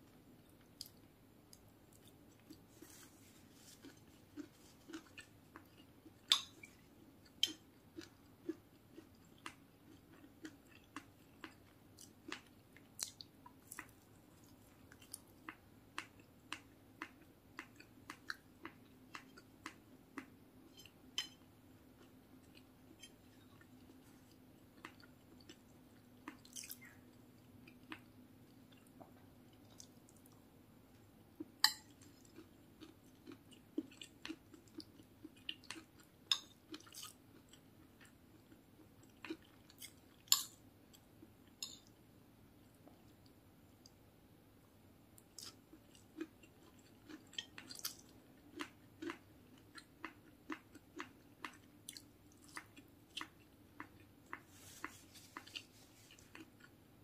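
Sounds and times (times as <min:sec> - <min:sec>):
person chewing food: 0:00.5 - 0:44.0, 0:45.2 - 0:57.0.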